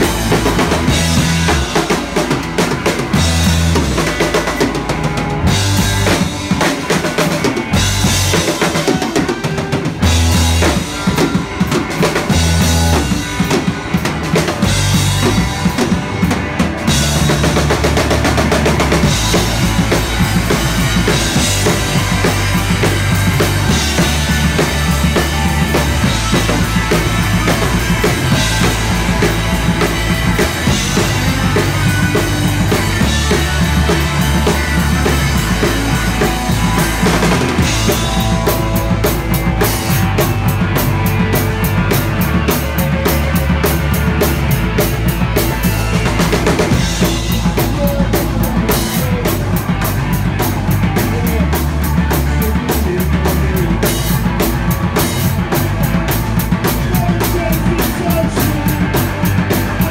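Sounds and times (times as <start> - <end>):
bass guitar: 0.0 - 59.9
drum kit: 0.0 - 59.9
live rock band playing: 0.0 - 59.9.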